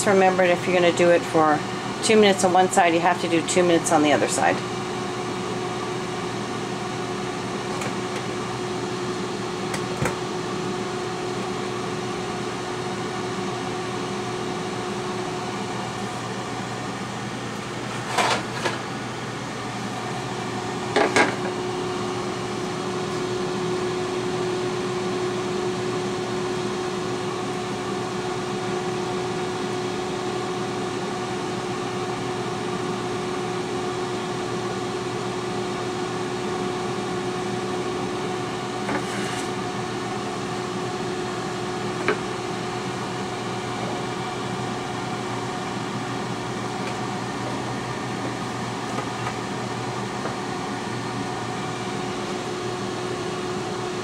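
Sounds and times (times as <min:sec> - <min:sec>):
air fryer fan hum: 0:00.0 - 0:54.0.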